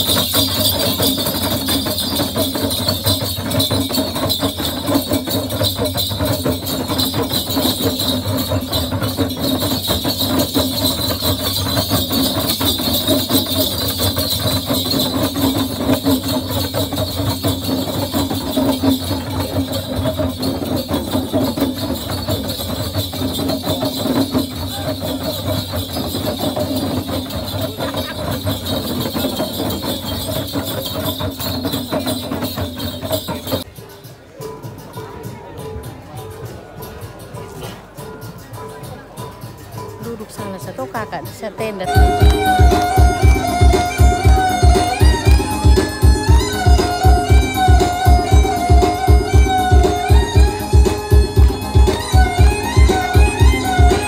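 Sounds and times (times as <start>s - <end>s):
hand drums beaten in fast rhythm: 0.0s - 54.0s.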